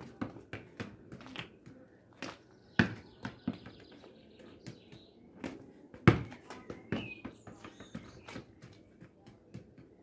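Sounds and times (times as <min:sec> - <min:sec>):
football thudding on paving: 0:00.0 - 0:10.0.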